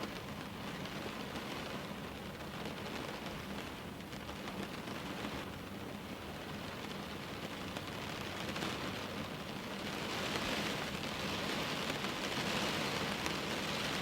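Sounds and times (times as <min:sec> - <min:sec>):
rain falling at a window: 0:00.0 - 0:14.0.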